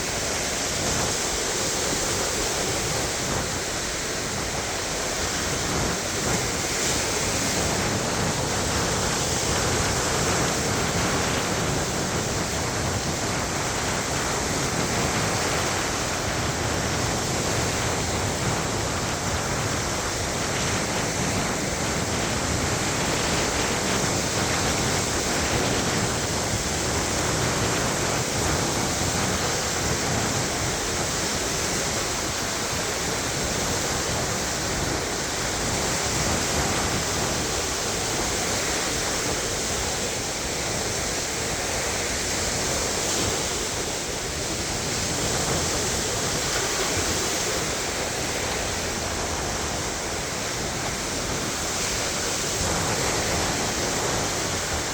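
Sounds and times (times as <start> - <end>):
waves washing onto beach: 0.0 - 54.9.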